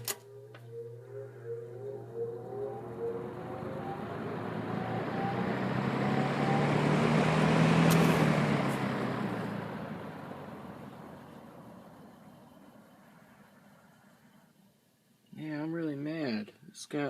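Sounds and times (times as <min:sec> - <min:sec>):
road vehicle passing by: 0:00.4 - 0:14.5.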